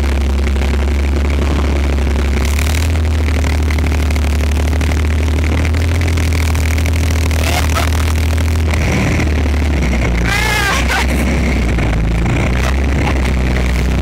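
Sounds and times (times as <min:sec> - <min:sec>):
tracked vehicle diesel engine: 0:00.0 - 0:14.0.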